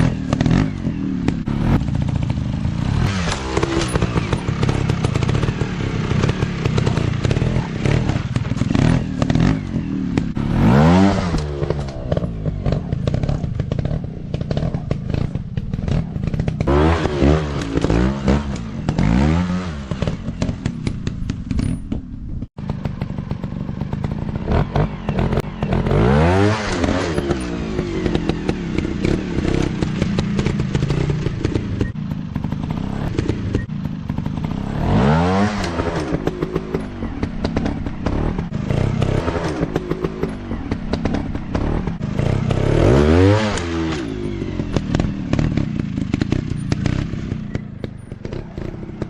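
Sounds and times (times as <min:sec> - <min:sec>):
bikes clattering over rough ground: 0:00.0 - 0:49.0
dirt bike engines revving: 0:00.0 - 0:49.0.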